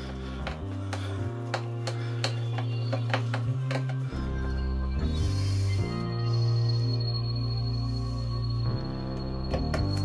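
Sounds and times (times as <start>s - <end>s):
ambient sustained chords music: 0.0s - 10.0s.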